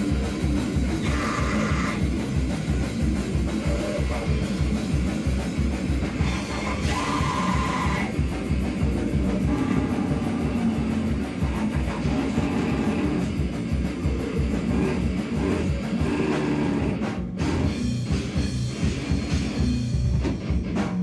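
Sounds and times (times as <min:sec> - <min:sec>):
distorted guitar: 0:00.0 - 0:21.0
fast dense drumming: 0:00.0 - 0:21.0
heavy rock band playing: 0:00.0 - 0:21.0.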